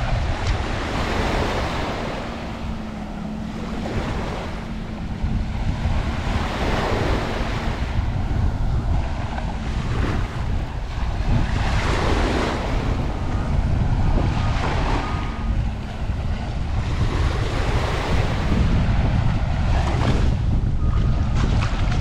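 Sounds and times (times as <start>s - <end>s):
waves washing onto beach: 0.0s - 22.0s
wind buffeting microphone: 0.0s - 22.0s.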